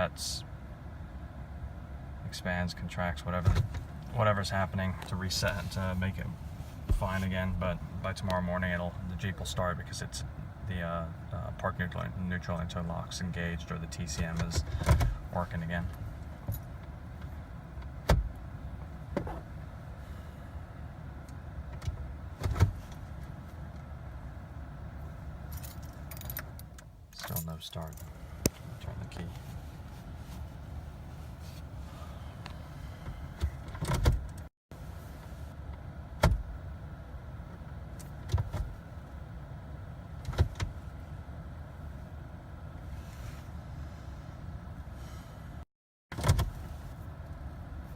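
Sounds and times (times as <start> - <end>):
low steady hum: 0.0 - 45.6.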